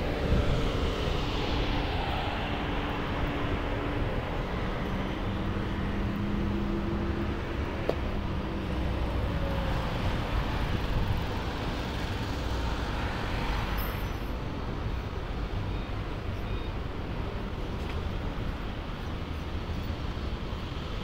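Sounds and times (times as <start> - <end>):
passing vehicles rumble: 0.0 - 21.0.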